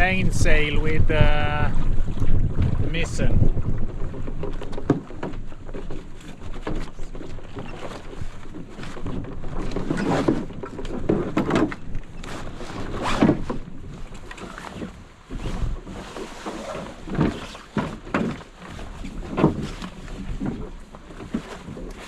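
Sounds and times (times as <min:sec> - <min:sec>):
water slapping against hull: 0:00.0 - 0:22.0.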